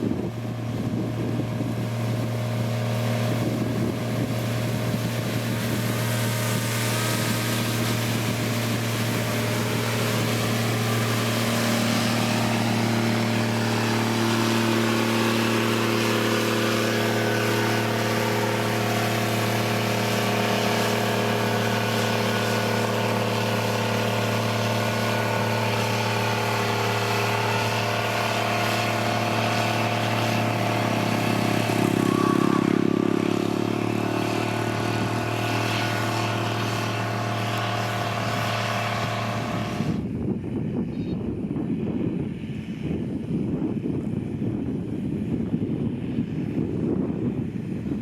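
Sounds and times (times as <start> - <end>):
diesel engine running: 0.0 - 48.0
rough rumbling noise: 0.0 - 48.0.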